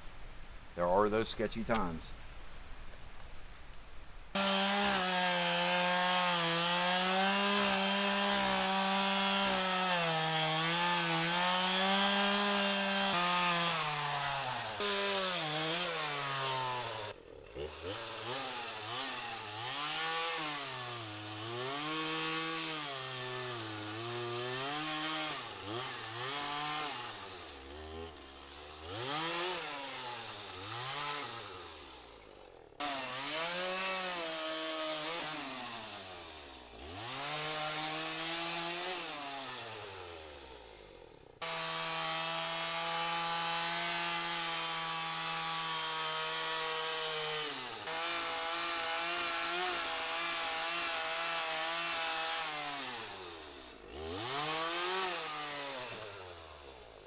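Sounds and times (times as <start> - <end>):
chainsaw cutting a branch: 4.3 - 57.0.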